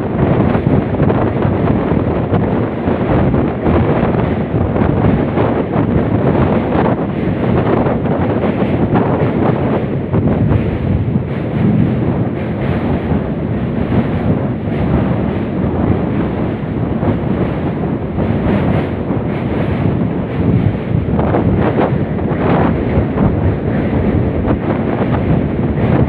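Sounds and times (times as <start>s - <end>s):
moving train rumble: 0.0s - 26.0s
wind buffeting microphone: 0.0s - 26.0s.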